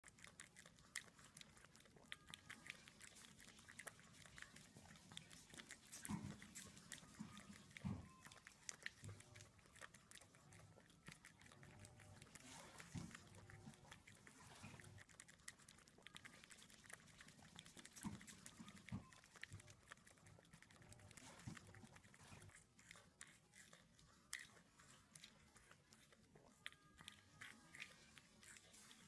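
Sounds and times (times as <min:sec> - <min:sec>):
puppy lapping liquid: 0:00.0 - 0:29.0.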